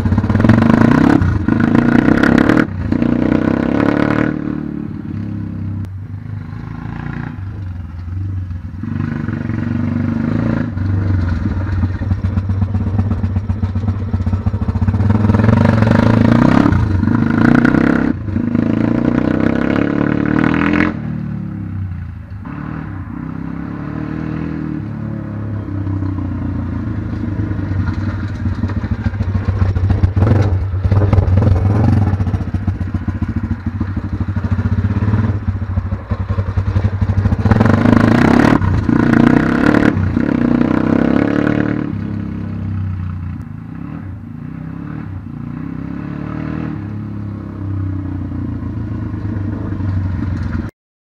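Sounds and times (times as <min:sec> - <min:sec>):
motorbike engine revving: 0:00.0 - 0:07.6, 0:08.2 - 0:50.7.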